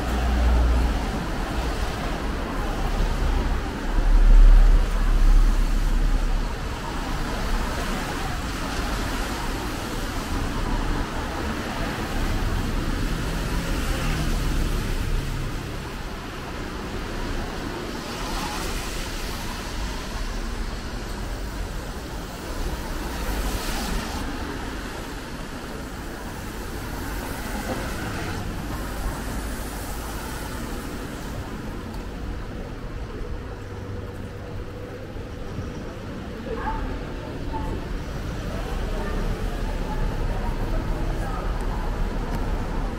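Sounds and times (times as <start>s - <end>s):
engines rumbling: 0.0s - 42.9s
tyres hissing on wet road: 0.0s - 42.9s.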